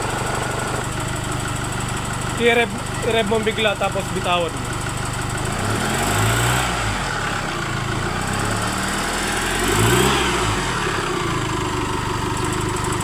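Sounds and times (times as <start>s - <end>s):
car engine idling and revving: 0.0s - 13.0s
ticking engine knock: 0.0s - 13.0s.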